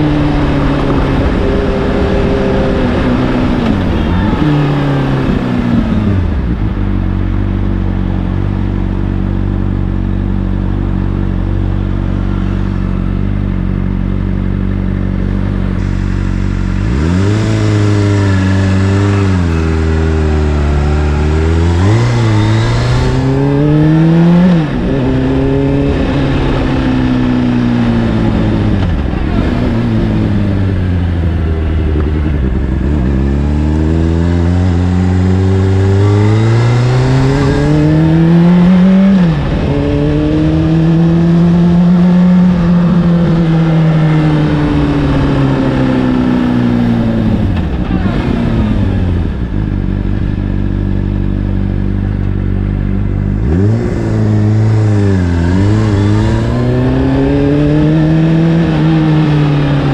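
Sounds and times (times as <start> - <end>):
motorcycle accelerating through gears: 0.0 - 59.9.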